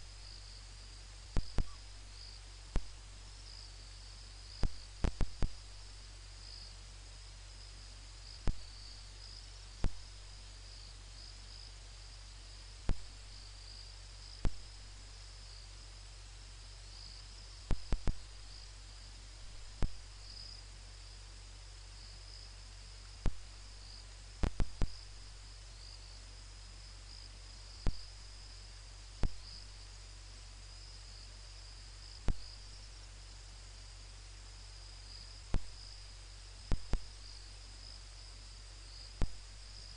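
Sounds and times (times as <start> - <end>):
crickets chirring: 0.0 - 39.9
low hum: 0.0 - 39.9.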